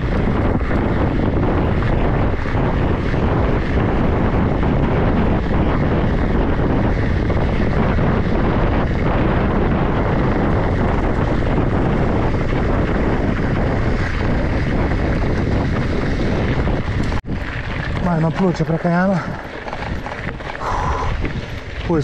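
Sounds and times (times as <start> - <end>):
bike tyres rolling on gravel: 0.0 - 22.0
wind buffeting microphone: 0.0 - 22.0.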